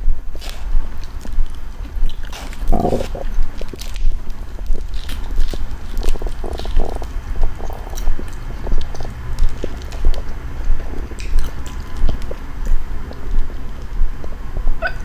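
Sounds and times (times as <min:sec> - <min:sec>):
chewing food: 0:00.3 - 0:15.0
mouth clicks: 0:00.3 - 0:15.0.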